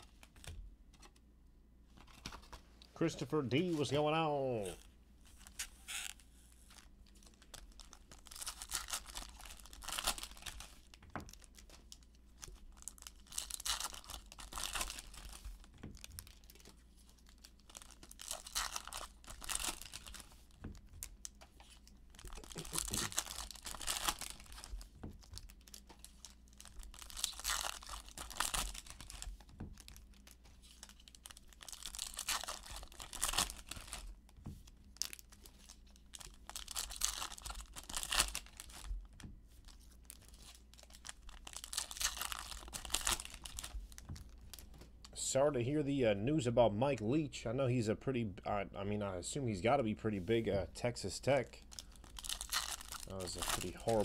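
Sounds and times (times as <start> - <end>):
foil wrappers crinkling and tearing: 3.6 - 44.7, 51.6 - 54.0.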